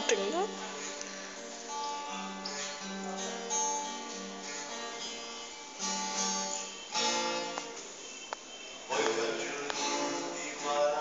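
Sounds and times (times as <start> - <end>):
acoustic guitar strummed chords: 0.0 - 11.0.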